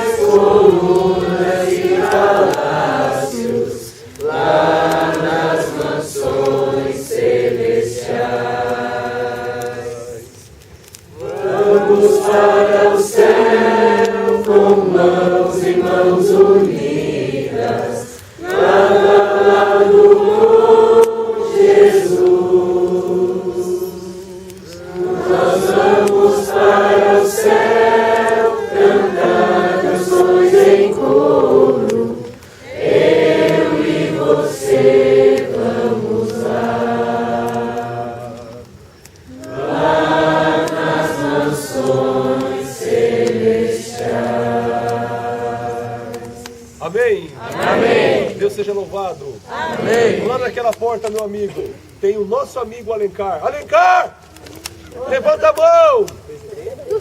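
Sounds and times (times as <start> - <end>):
group singing worship song: 0.0 - 51.8.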